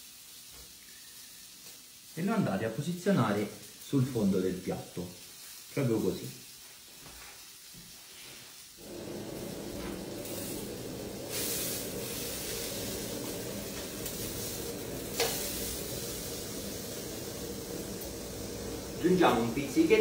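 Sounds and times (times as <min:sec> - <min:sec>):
octopus sizzling in a frying pan: 0:00.0 - 0:20.0.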